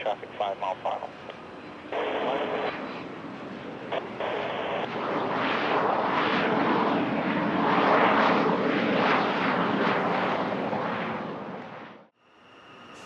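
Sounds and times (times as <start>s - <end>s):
aircraft engines roaring: 0.0s - 13.0s.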